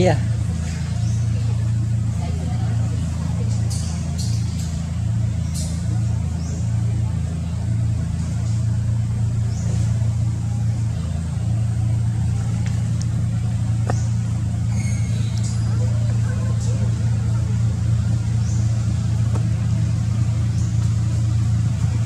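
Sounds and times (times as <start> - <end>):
engine running with low hum: 0.0 - 22.0.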